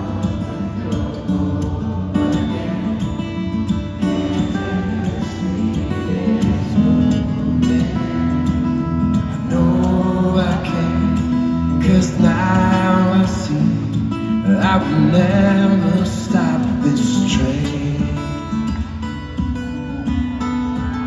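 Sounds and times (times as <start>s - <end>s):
man singing: 0.0s - 19.2s
fingerpicked acoustic guitar: 0.0s - 21.0s.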